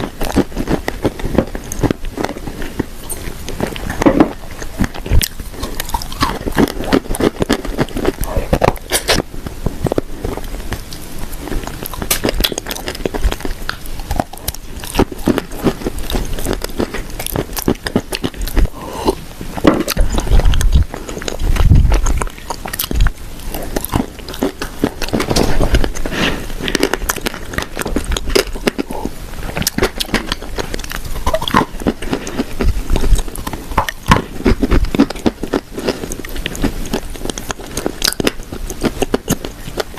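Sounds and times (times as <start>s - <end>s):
chewing crunchy clay pieces: 0.0s - 39.9s.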